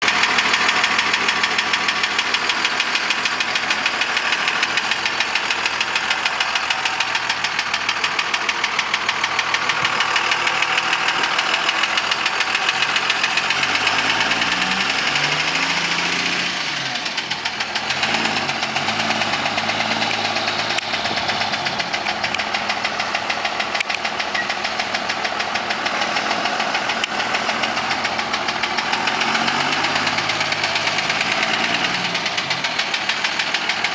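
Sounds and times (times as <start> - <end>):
diesel engine knocking: 0.0 - 33.9.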